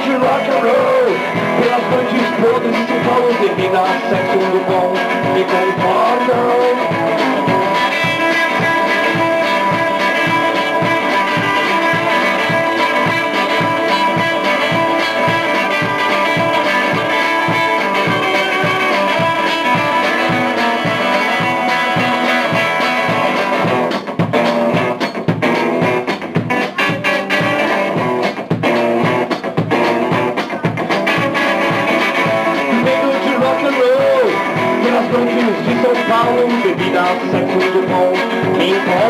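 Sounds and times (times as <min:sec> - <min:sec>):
electric guitar: 0:00.0 - 0:39.0.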